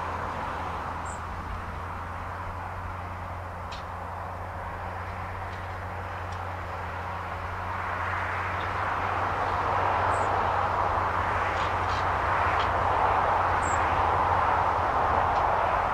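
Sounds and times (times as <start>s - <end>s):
tractor diesel engine under load: 0.0s - 15.9s.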